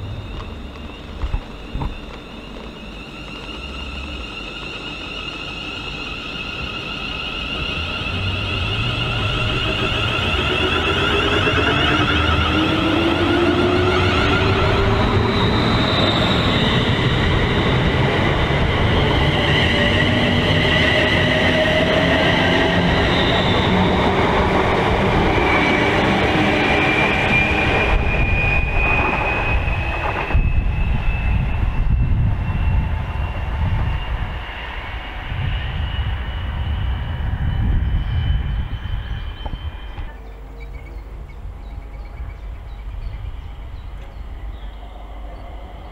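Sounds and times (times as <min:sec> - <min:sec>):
train traction motors whining: 0:00.0 - 0:45.9
trains passing: 0:00.0 - 0:45.9
wheels rumbling on rail: 0:00.0 - 0:45.9.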